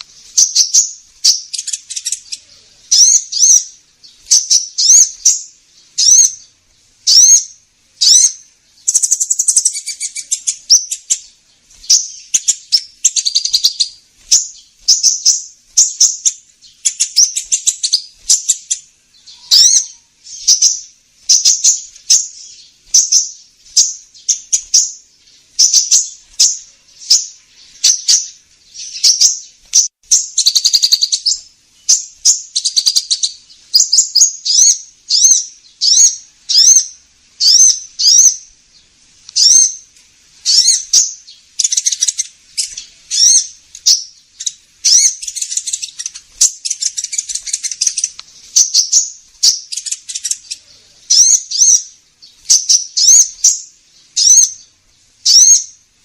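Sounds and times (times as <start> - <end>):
recorded bird chirps: 0.0 - 56.0.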